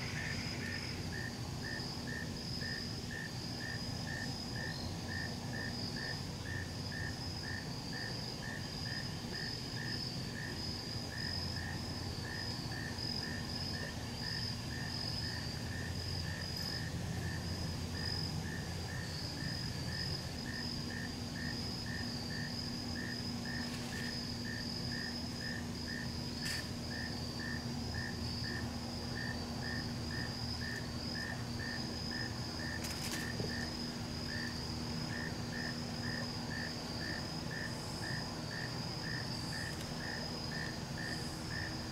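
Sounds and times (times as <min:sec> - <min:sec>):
high-pitched insect trill: 0:00.0 - 0:41.9.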